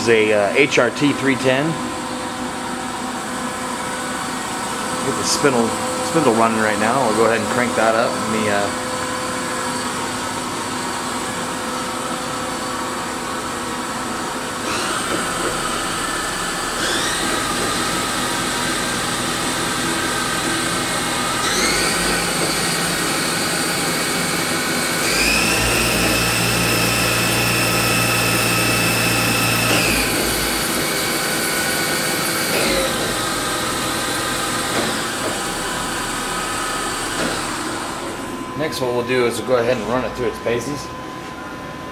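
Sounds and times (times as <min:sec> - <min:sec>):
machine hum: 0:00.0 - 0:41.9
machine spindle whining: 0:00.0 - 0:41.9.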